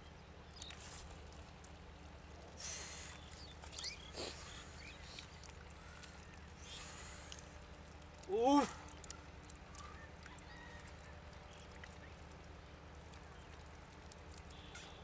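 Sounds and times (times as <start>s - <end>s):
hands squelching in wet mud: 0.5s - 15.0s.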